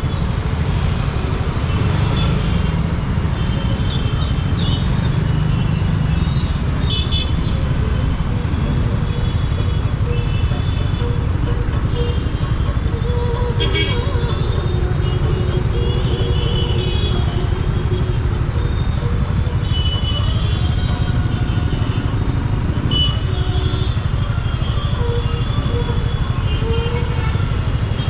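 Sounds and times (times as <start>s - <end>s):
scooter engine running: 0.0s - 28.0s.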